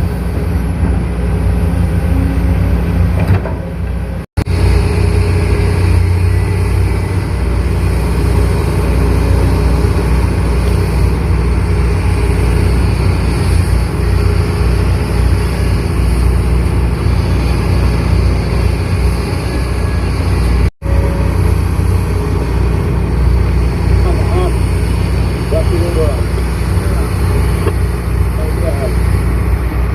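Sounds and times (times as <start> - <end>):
excavator diesel engine droning: 0.0 - 29.9.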